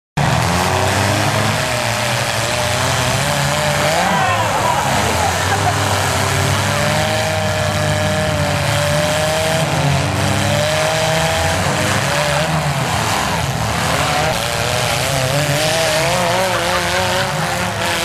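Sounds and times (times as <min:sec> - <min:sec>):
car engines revving loudly: 0:00.2 - 0:18.0.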